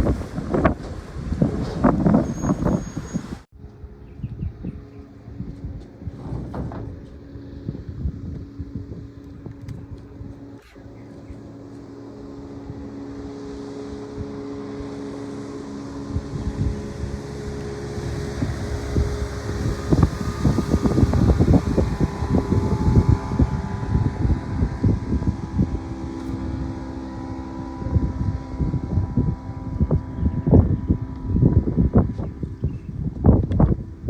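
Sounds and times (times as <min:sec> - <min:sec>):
boat engine droning: 0:00.0 - 0:34.0
wind buffeting microphone: 0:00.0 - 0:34.0.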